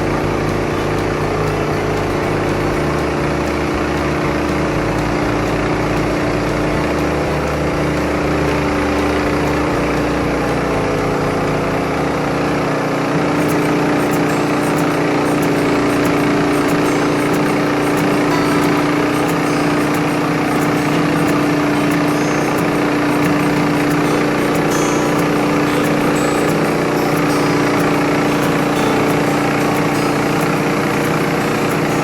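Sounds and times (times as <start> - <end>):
band sawmill running: 0.0 - 32.0
faint high ticking: 0.0 - 32.0.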